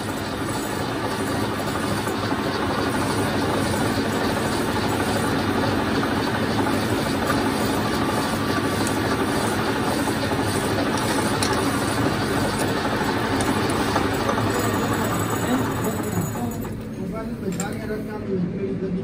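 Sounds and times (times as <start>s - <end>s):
hand file on spinning steel: 0.0s - 16.6s
metal lathe running: 0.0s - 18.0s.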